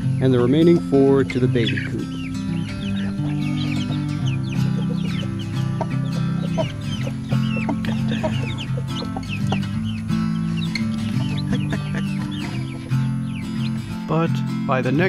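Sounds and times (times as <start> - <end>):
chicks peeping: 0.0 - 14.2
background music with low notes: 0.0 - 15.0.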